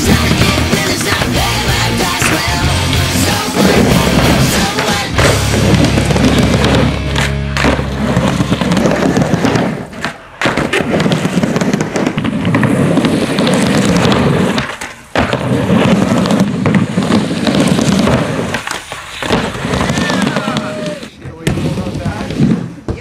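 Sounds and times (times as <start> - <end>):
skateboard wheels rolling on plywood: 0.0 - 23.0.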